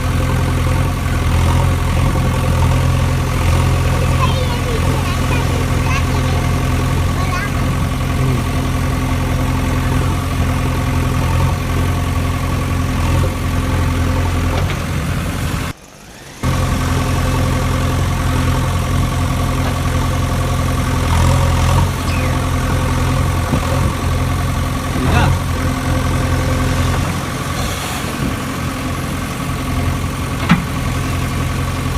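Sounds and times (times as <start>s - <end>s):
engine idling: 0.0s - 31.9s.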